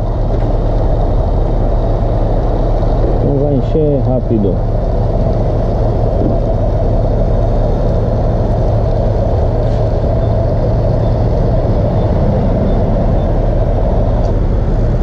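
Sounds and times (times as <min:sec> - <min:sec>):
loud low rumble: 0:00.0 - 0:15.0.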